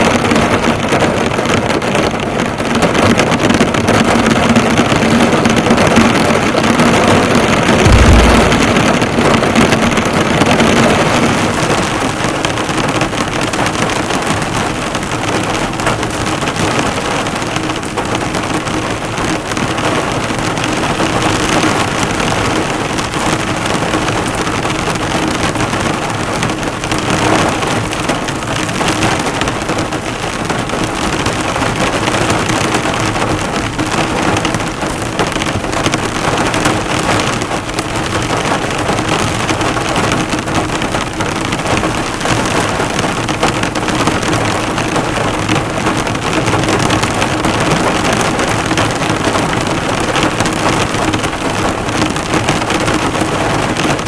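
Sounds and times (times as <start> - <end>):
heavy rain on a car: 0.0 - 54.0.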